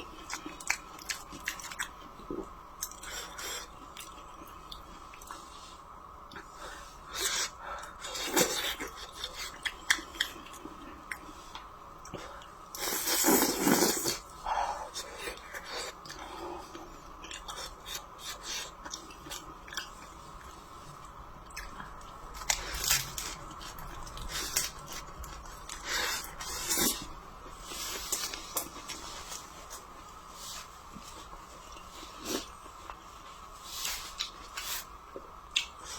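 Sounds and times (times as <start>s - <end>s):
person chewing food: 0.0s - 5.6s, 6.3s - 35.9s.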